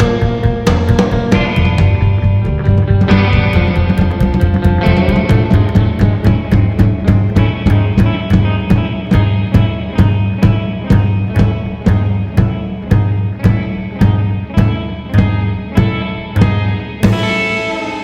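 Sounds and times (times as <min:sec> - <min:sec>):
rock band music: 0:00.0 - 0:18.0
steady drum beat: 0:00.0 - 0:18.0
sustained bass line: 0:00.0 - 0:18.0.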